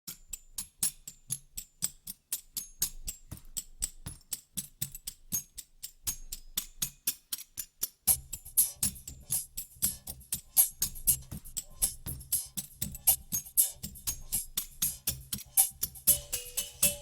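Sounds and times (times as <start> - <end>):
drums: 0.1 - 17.0
quick ticking percussion: 0.3 - 17.0.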